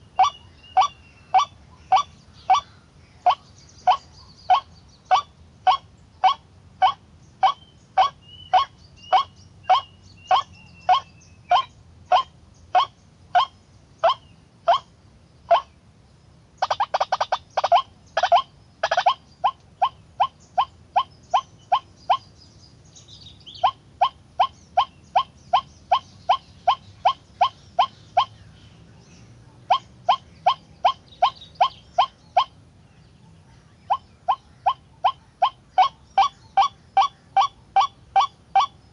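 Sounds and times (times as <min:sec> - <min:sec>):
waterhen croaking calls: 0:00.0 - 0:14.9, 0:15.5 - 0:15.7, 0:16.6 - 0:22.3, 0:23.5 - 0:28.4, 0:29.6 - 0:32.6, 0:33.8 - 0:38.9.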